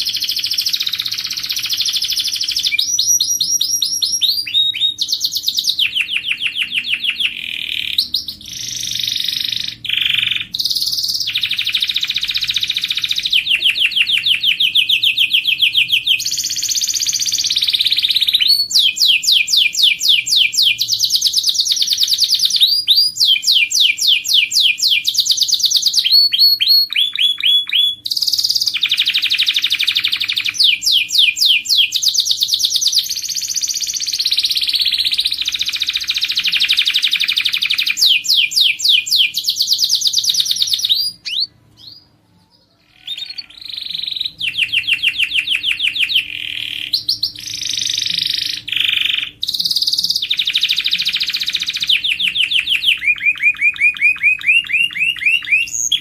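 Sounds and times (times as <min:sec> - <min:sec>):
canary singing fast trills: 0:00.0 - 0:56.0.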